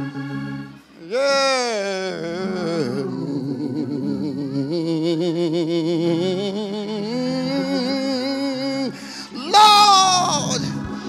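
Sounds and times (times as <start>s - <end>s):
church organ chords: 0.0s - 11.0s.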